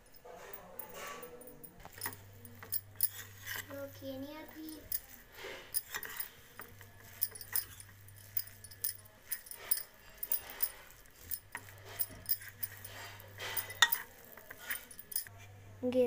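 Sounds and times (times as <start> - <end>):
spoon scraping steel bowl: 0.0 - 15.3.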